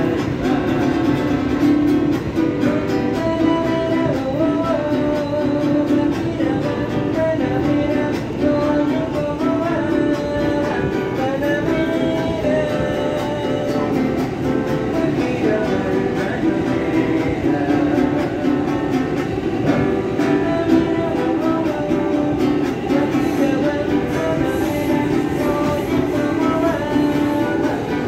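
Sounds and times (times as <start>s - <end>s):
acoustic guitar strumming: 0.0s - 28.0s
person singing: 0.0s - 28.0s
train rumble: 0.0s - 28.0s.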